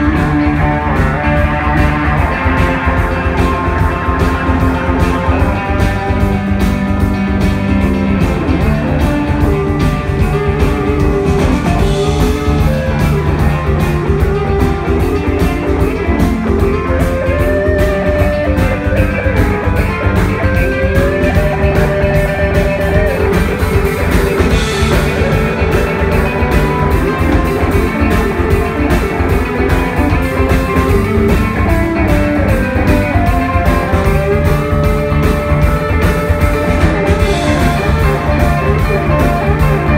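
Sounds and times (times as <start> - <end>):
bass guitar: 0.0 - 39.9
drum kit beat: 0.0 - 39.9
electric guitars: 0.0 - 39.9.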